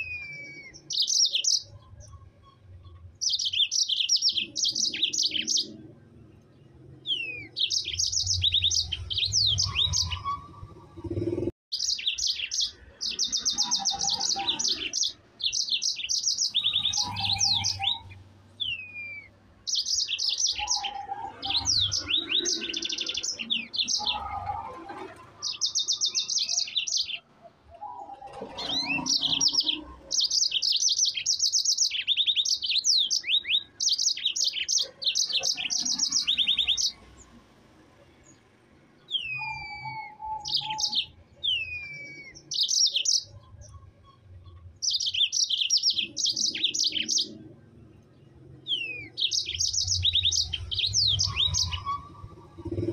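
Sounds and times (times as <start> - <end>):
canary singing trills and chirps: 0.0 - 52.9.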